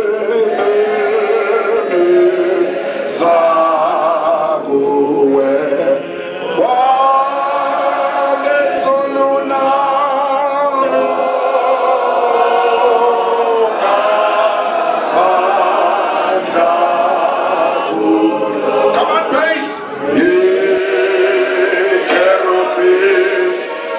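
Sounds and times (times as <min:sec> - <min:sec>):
congregation singing a hymn: 0:00.0 - 0:23.9.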